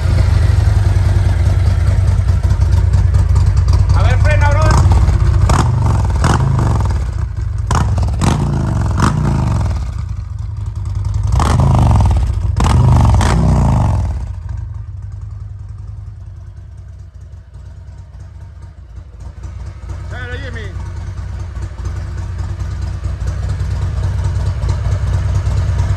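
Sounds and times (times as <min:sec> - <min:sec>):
motorcycle engine revving and idling: 0:00.0 - 0:25.9.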